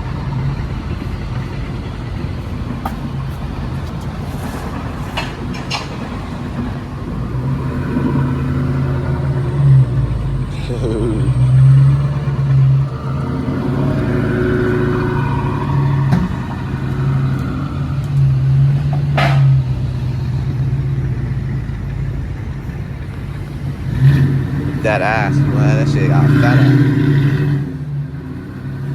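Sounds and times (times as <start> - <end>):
car exhaust drone: 0.0 - 28.9.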